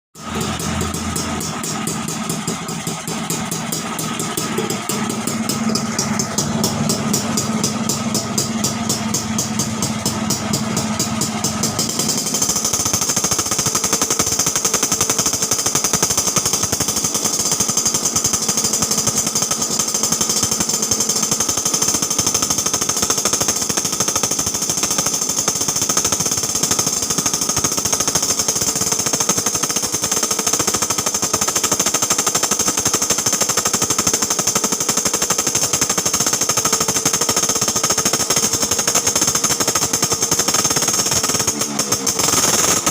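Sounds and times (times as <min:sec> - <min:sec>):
two-stroke engine revving: 0:00.2 - 0:42.9.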